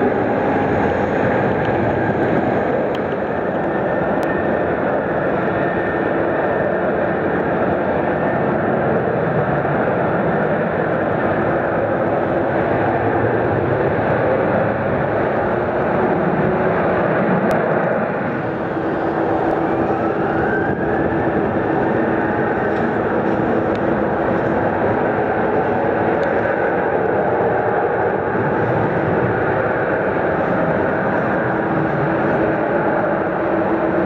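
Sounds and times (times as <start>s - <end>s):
faint rising whine: 0.0s - 34.0s
jet engine rush: 0.0s - 34.0s
low hum: 0.0s - 34.0s.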